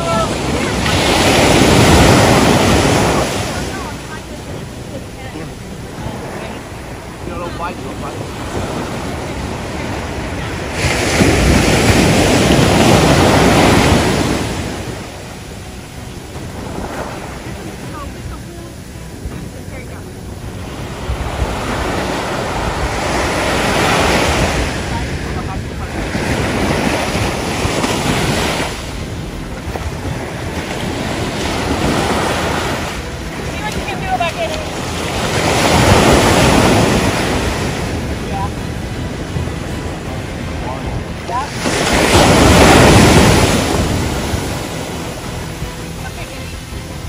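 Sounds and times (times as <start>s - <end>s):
ocean surf in shallow water: 0.0s - 47.0s
wave breaking: 0.0s - 47.0s
wind buffeting microphone: 0.0s - 47.0s.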